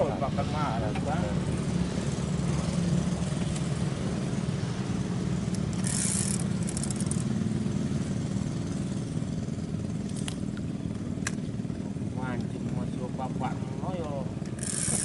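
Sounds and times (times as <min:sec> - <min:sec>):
small engine droning: 0:00.0 - 0:15.0.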